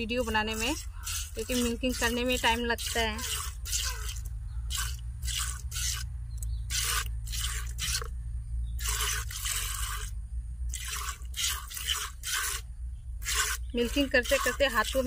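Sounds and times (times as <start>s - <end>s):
milk squirting into plastic bucket: 0.0s - 6.1s, 6.7s - 8.1s, 8.8s - 10.1s, 10.7s - 15.0s.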